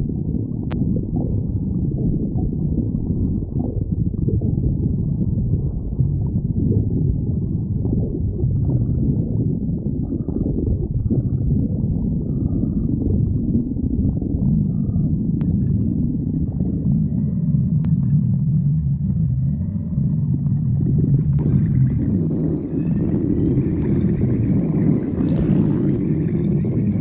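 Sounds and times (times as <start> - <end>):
stomach growling: 0.0 - 27.0.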